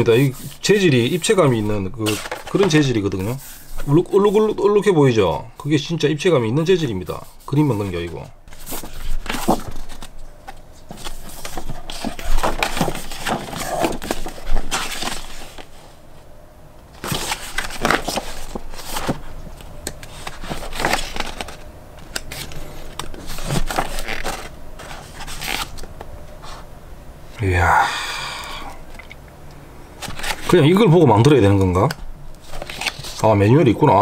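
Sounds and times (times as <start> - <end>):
paper and packaging rustling: 0.0 - 5.3, 5.9 - 16.0, 16.9 - 26.6, 30.0 - 34.0.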